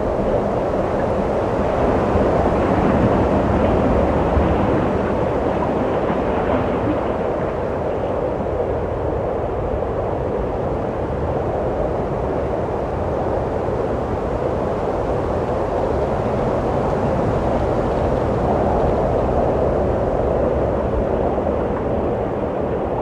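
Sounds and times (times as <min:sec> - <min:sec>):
rushing wind: 0:00.0 - 0:23.0.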